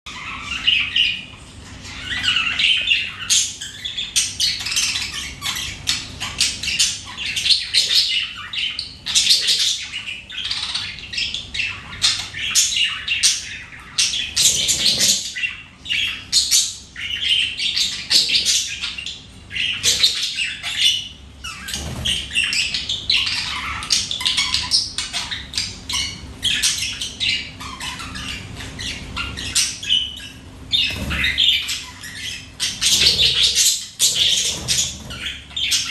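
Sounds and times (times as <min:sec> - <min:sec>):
flock of birds chirping and squawking: 0:00.1 - 0:35.9.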